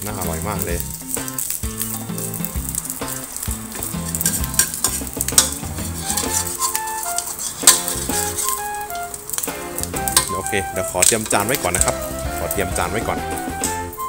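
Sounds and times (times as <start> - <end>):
omelette sizzling in hot oil: 0.0 - 14.0
metal spatula scraping wok: 0.9 - 13.0.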